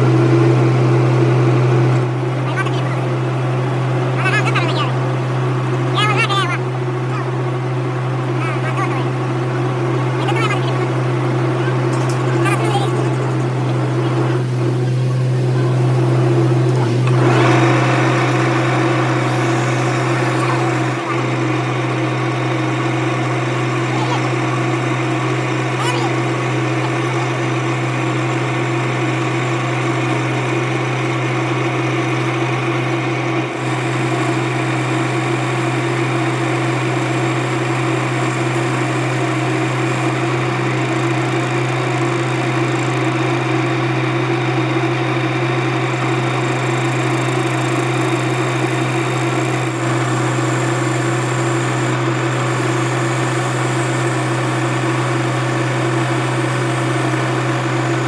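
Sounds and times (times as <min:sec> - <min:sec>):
workshop machine humming: 0:00.0 - 0:58.0.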